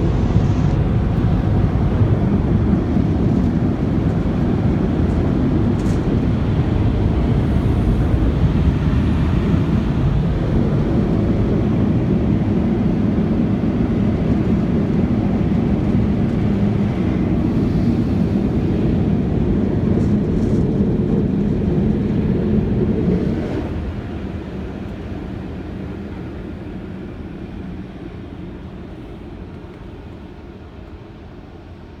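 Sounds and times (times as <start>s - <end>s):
muffled car wash machinery: 0.0s - 32.0s.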